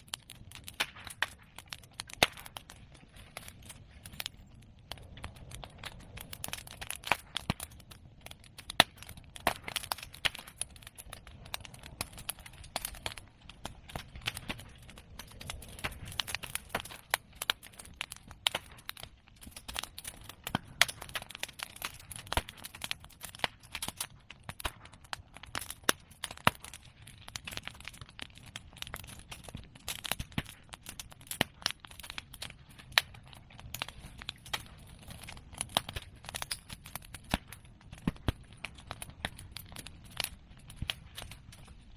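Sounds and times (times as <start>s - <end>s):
fire crackling: 0.0s - 41.9s
sharp pops from fire: 0.0s - 41.9s.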